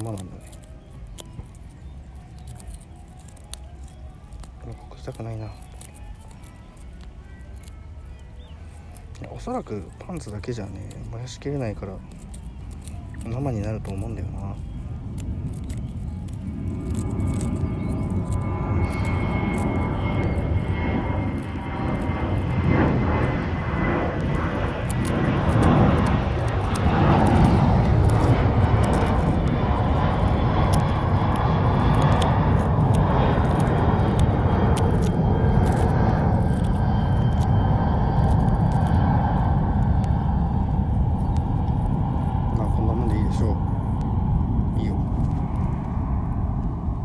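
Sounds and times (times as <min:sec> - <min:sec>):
airplane engine noise: 0:00.0 - 0:47.0
faint high whine: 0:00.0 - 0:47.0.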